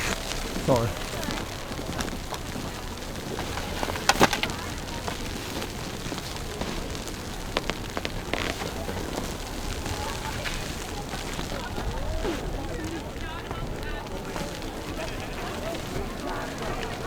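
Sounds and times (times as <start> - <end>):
snow crunching: 0.0 - 17.0
steady outdoor noise: 0.0 - 17.0.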